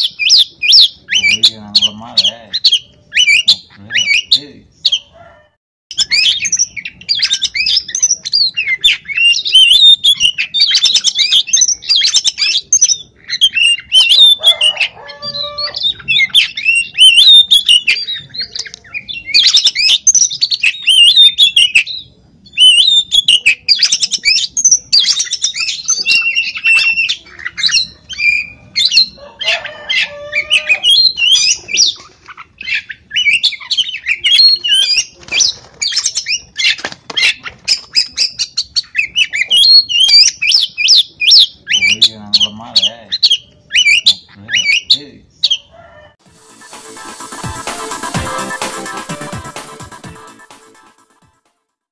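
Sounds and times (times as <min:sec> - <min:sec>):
bird singing whistles and trills: 0:00.0 - 0:05.1, 0:05.9 - 0:32.0, 0:32.6 - 0:45.6
harsh bird calls: 0:00.0 - 0:46.2.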